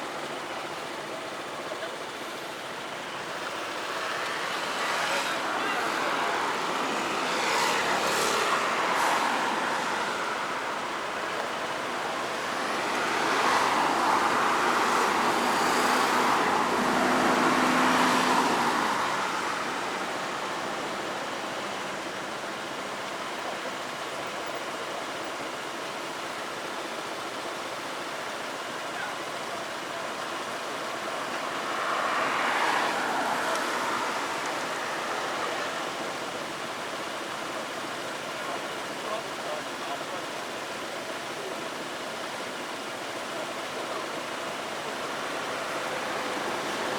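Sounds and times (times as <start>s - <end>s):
steady road hum: 0.0s - 46.9s
vehicles passing by: 0.0s - 46.9s.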